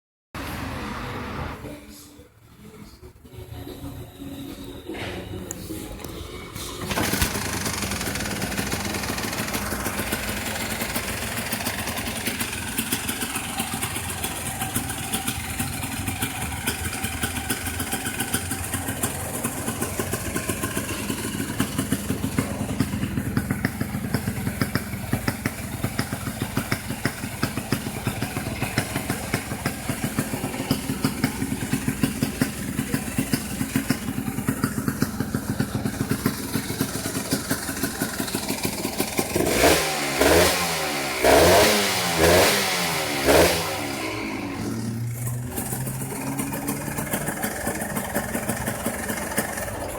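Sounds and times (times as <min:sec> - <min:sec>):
motorcycle engine idling: 0:05.2 - 0:49.9.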